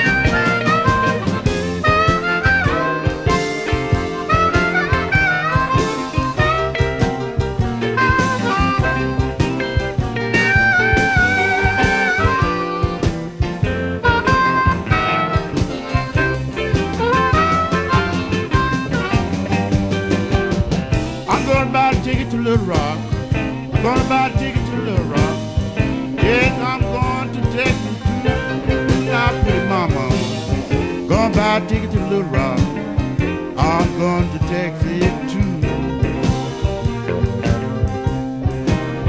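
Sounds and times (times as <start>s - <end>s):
electric blues band playing: 0.0s - 39.0s.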